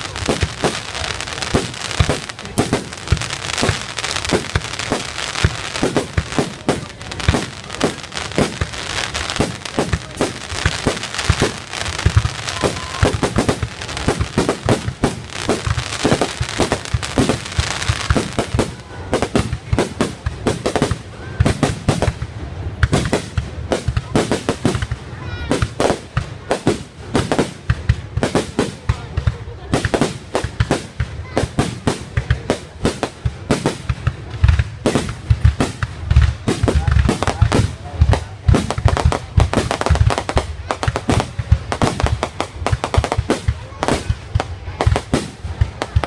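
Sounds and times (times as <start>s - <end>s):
fireworks bangs and crackles: 0.0s - 46.0s
fireworks booms: 0.0s - 46.0s.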